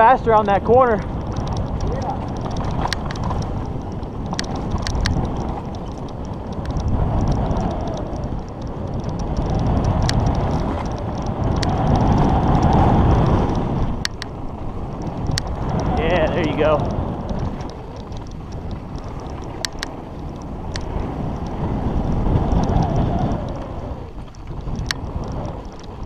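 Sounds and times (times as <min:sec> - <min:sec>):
bike clicks and rattles: 0:00.0 - 0:26.0
bike tyres rolling on dirt: 0:00.0 - 0:26.0
wind on camera microphone: 0:00.0 - 0:26.0.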